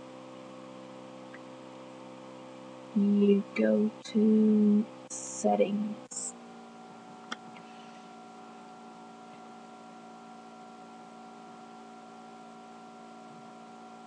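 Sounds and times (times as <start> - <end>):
laptop cooling fan humming: 0.0 - 14.0.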